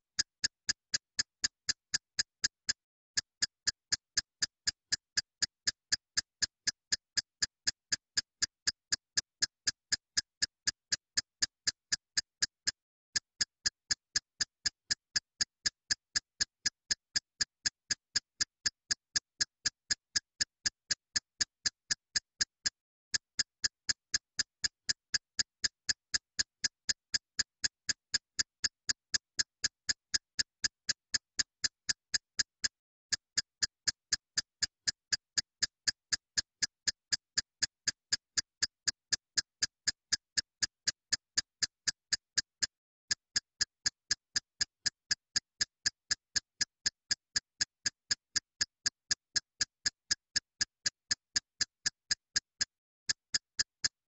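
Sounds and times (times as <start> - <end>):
clock-like ticking: 0.0 - 54.0.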